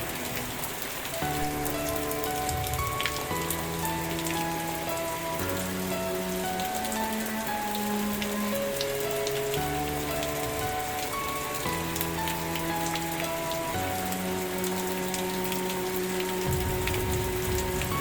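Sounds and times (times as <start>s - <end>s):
soft slow music chords: 0.0s - 18.0s
steady rain: 0.0s - 18.0s.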